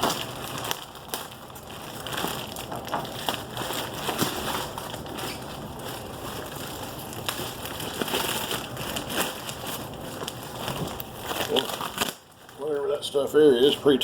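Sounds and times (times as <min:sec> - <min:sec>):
packaging being torn by hand: 0:00.0 - 0:12.7.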